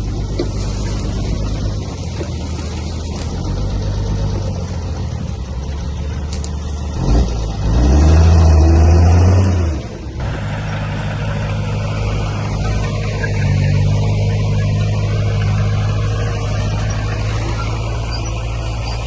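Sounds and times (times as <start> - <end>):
heavy diesel machinery engine: 0.0 - 19.0.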